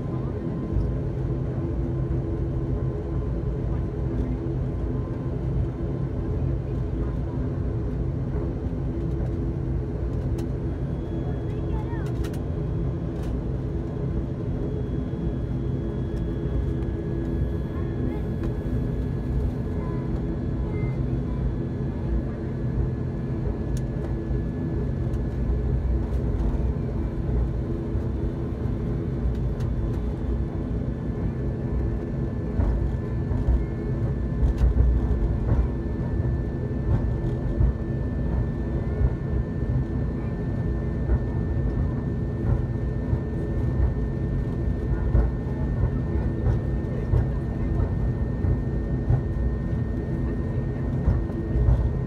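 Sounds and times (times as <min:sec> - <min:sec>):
turboprop engines droning: 0:00.0 - 0:52.0.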